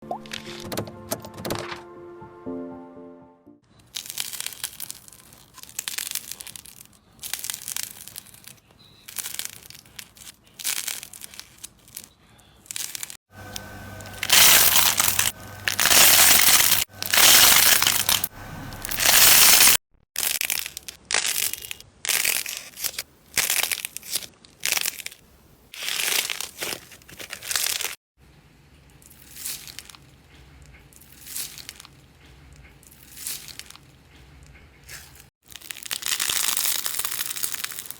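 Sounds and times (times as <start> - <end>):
crunchy slime squishes: 3.8 - 28.0, 28.9 - 37.9.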